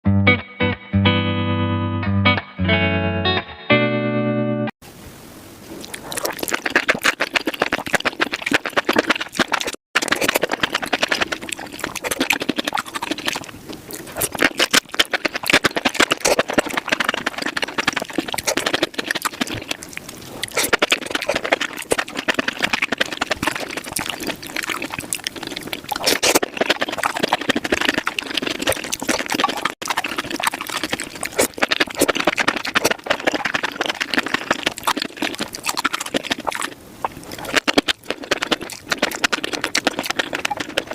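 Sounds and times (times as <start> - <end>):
rapid wet chewing: 5.6 - 40.9
mouth clicks: 5.8 - 40.9.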